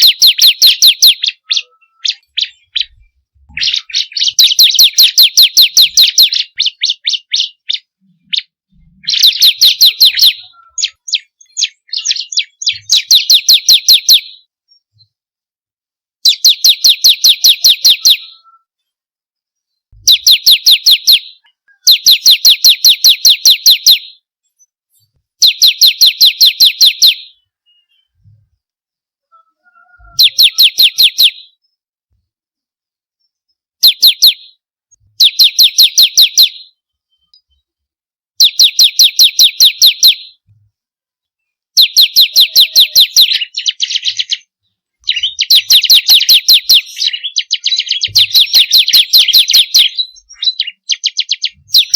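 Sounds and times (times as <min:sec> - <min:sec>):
bird singing high sharp chirps: 0:00.0 - 0:15.1, 0:16.2 - 0:18.7, 0:19.9 - 0:28.4, 0:29.3 - 0:31.7, 0:33.8 - 0:37.6, 0:38.4 - 0:40.4, 0:41.8 - 0:51.9.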